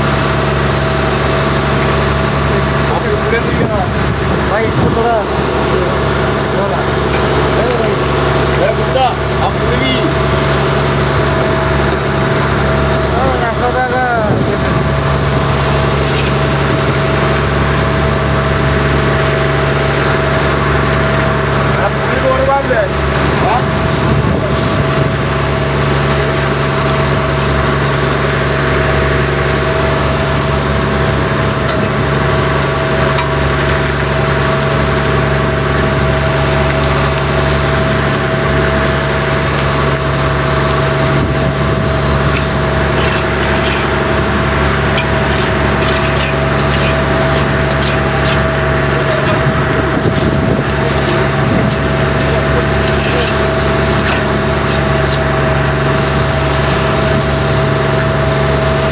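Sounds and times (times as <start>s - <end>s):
boat engine droning: 0.0s - 58.9s
fixed humming tone: 0.0s - 58.9s.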